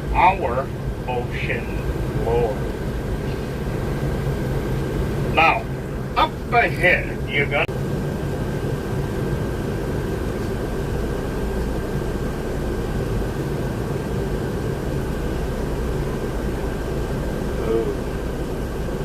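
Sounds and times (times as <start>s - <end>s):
faint steady whine: 0.0s - 19.0s
vehicle engine and road rumble: 0.0s - 19.0s.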